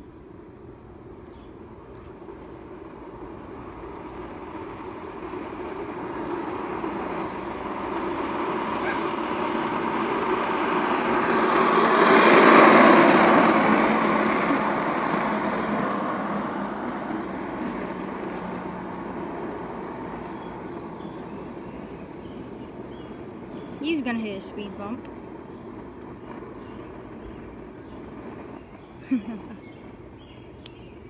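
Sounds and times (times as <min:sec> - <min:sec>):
toy scooter wheels rolling on asphalt: 0:00.3 - 0:31.0.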